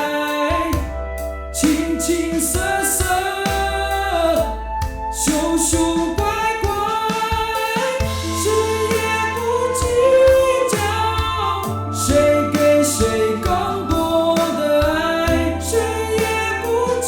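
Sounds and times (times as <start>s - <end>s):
low bass notes: 0.0s - 17.0s
synthetic singing voice: 0.0s - 17.0s.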